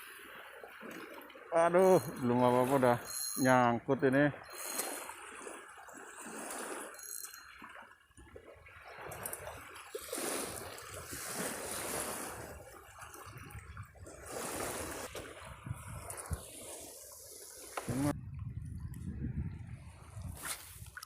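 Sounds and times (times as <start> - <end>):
small sea waves washing: 0.0 - 3.2, 3.8 - 18.2.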